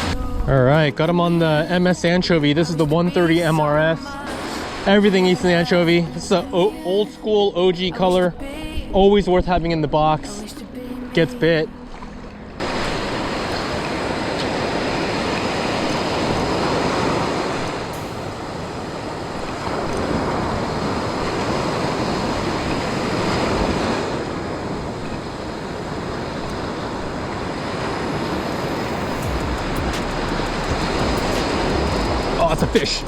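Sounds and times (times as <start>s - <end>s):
ocean surf on sandy beach: 0.0s - 8.8s, 9.7s - 33.0s.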